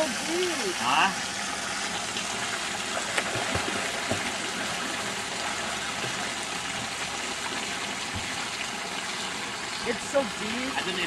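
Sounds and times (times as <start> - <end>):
water rushing out of a drain: 0.0 - 11.0.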